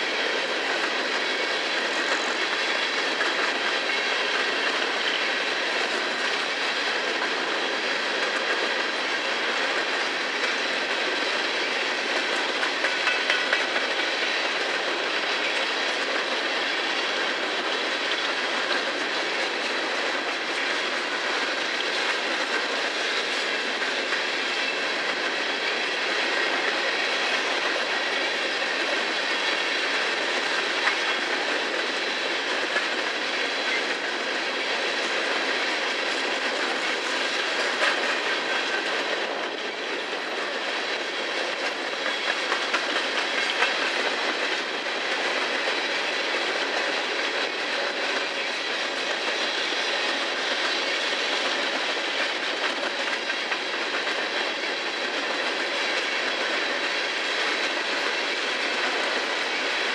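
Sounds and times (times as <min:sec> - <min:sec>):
steel wheels rumbling on rail: 0:00.0 - 0:59.9
wheels clacking over rail joints: 0:00.0 - 0:59.9.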